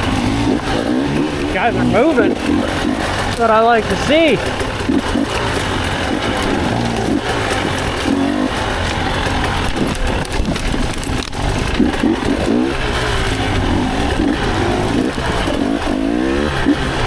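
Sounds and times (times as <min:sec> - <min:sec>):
dirt bike engine revving: 0:00.0 - 0:17.0
rush of wind: 0:00.0 - 0:17.0.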